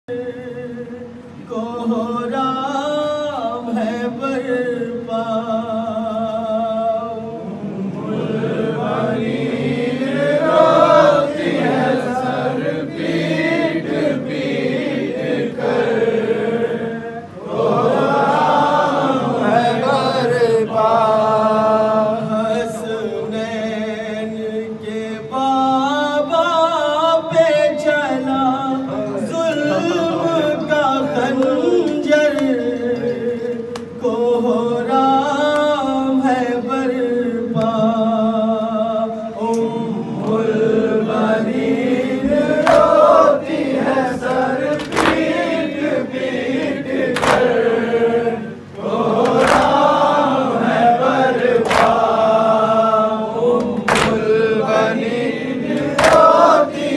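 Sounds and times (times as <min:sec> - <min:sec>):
group of men singing: 0:00.0 - 0:56.9.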